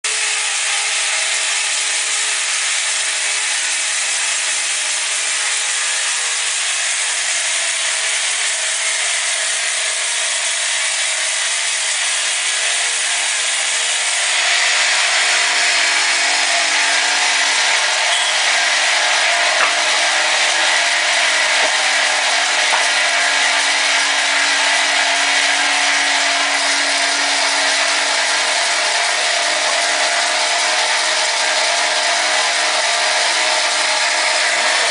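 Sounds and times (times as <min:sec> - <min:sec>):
sawmill saw cutting wood: 0:00.0 - 0:34.9.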